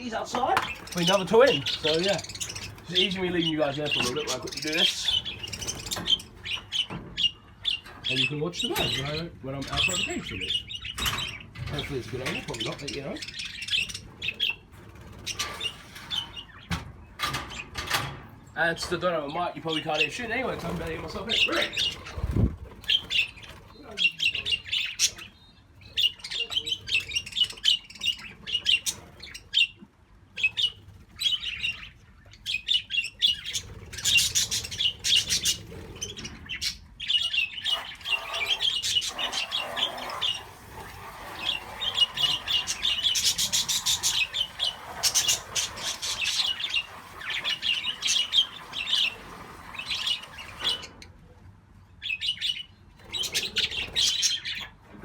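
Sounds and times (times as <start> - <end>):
budgerigars chirping and chattering: 0.0 - 51.2, 51.9 - 55.0.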